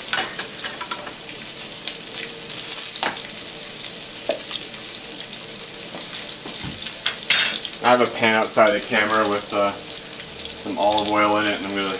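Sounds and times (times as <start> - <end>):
fish sizzling in a pan: 0.0 - 11.9.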